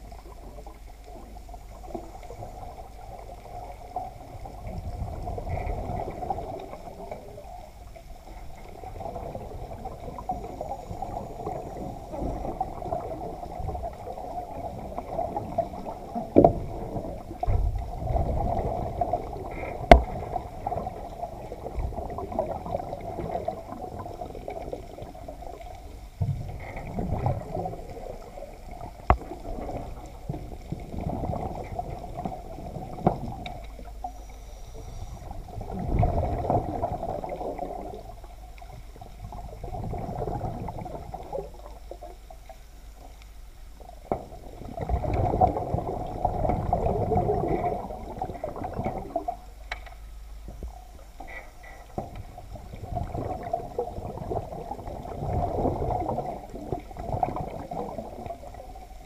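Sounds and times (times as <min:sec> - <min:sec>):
underwater wash of moving water: 0:00.0 - 0:59.0.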